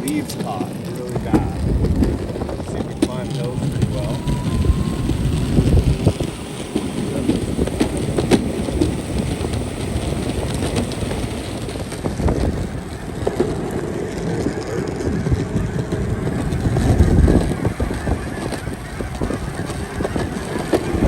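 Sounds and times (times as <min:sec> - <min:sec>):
skateboard wheels rolling on pavement: 0:00.0 - 0:21.0.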